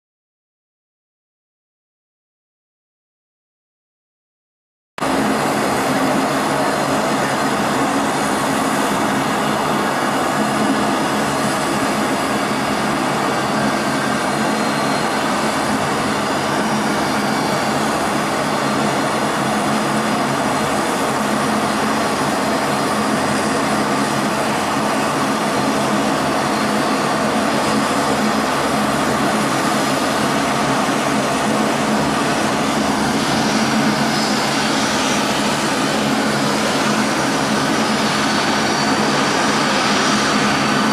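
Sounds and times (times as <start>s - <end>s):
jet engines roaring with whine: 5.0s - 40.9s.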